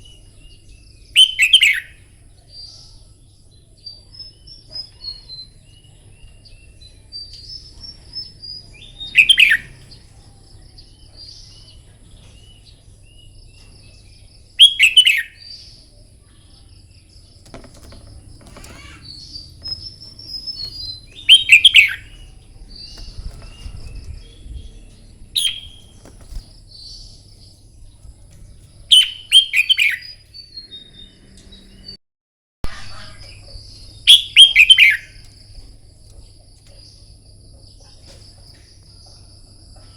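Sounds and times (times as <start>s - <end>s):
bird song phrases: 0.0s - 32.0s, 32.7s - 39.9s
soft twittering bird calls: 0.0s - 32.0s, 32.9s - 39.9s.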